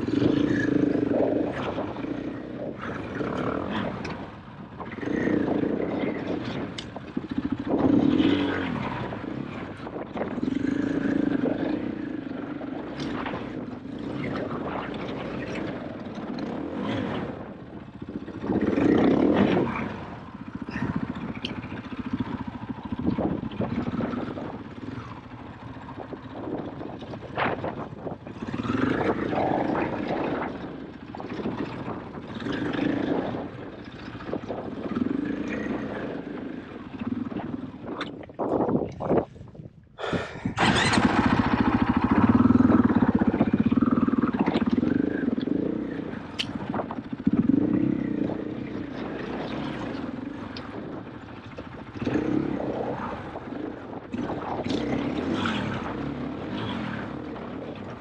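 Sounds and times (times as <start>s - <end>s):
dirt bike engine revving: 0.0s - 38.0s, 40.1s - 58.0s.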